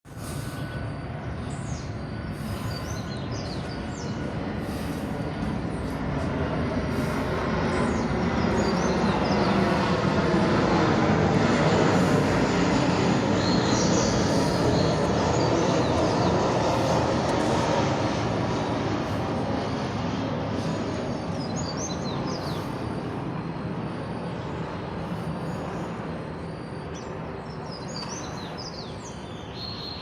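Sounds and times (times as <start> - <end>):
jet engines roaring: 0.1 - 30.0.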